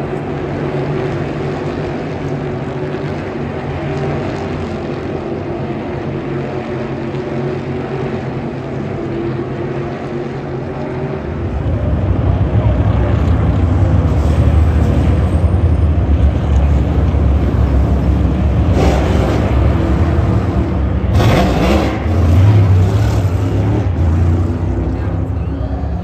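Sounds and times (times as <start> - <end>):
race car engines running loud: 0.0 - 26.0.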